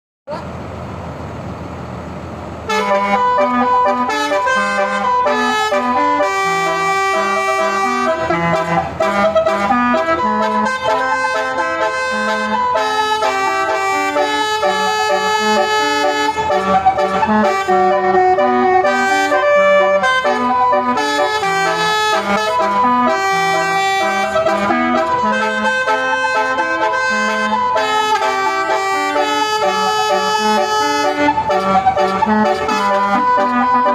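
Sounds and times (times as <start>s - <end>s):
musical bus air horn melody: 2.7s - 33.9s.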